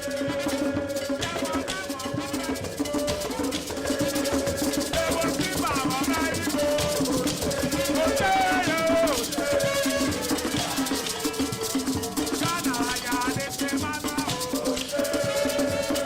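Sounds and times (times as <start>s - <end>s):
background music with shakers and drums: 0.0s - 16.0s.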